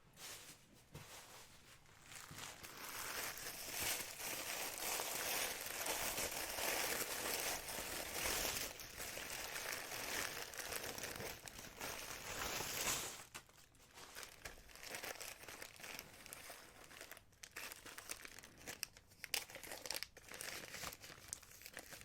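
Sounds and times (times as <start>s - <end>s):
packaging crinkling: 1.9s - 22.0s.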